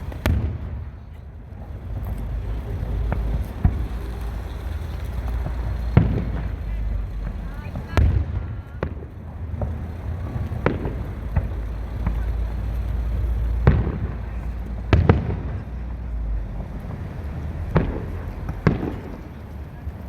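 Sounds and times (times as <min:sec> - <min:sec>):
fireworks bangs: 0:00.0 - 0:20.0
steady low rumble: 0:00.0 - 0:20.0.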